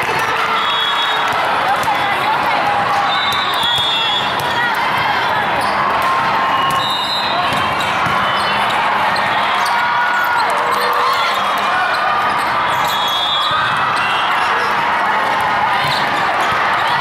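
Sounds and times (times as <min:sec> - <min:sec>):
hubbub of many voices: 0:00.0 - 0:17.0
volleyballs hit and bouncing: 0:01.0 - 0:17.0.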